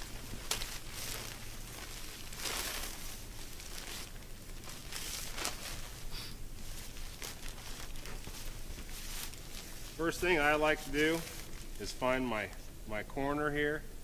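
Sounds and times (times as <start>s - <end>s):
fabric rustling: 0.0s - 11.9s.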